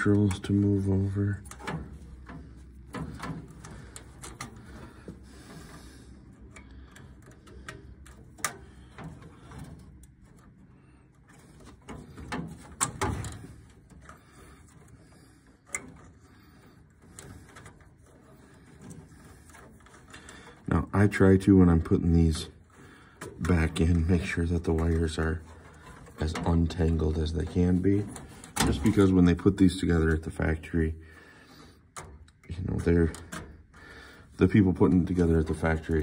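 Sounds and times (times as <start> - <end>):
wire bundle rustling: 0.0 - 29.5.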